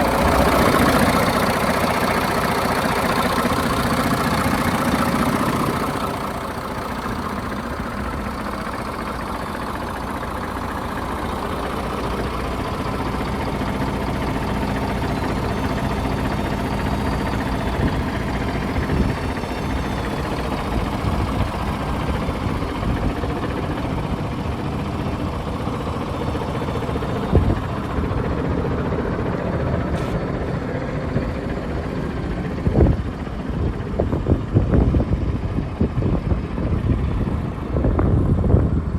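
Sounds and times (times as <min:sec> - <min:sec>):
truck diesel engine idling: 0:00.0 - 0:38.9.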